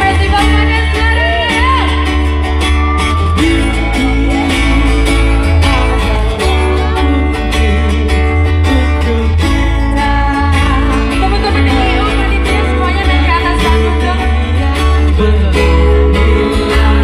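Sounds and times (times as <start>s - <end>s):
heavy bass line: 0.0s - 17.0s
live band guitar: 0.0s - 17.0s.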